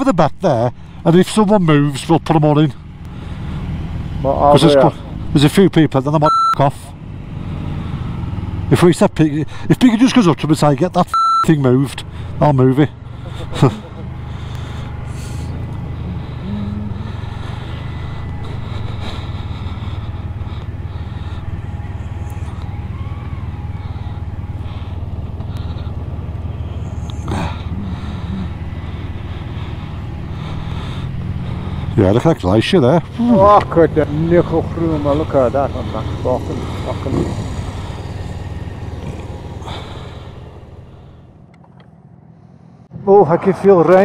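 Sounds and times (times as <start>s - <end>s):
motorcycle engine at low revs: 0.7s - 42.2s.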